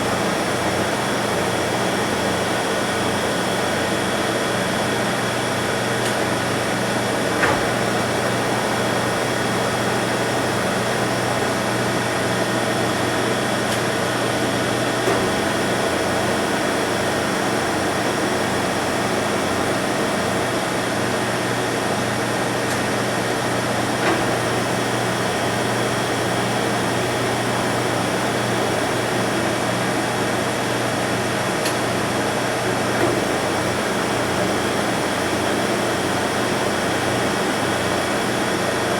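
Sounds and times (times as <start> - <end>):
high machine whine: 0.0 - 38.9.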